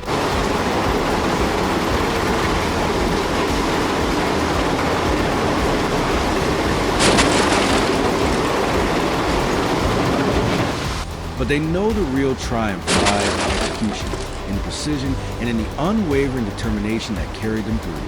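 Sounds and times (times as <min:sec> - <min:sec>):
crackling hiss: 0:00.0 - 0:18.0
heavy machinery running: 0:00.0 - 0:18.0.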